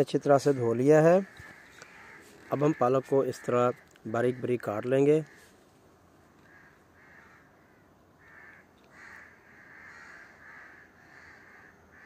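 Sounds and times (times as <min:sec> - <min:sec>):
crows cawing: 0:00.2 - 0:12.0.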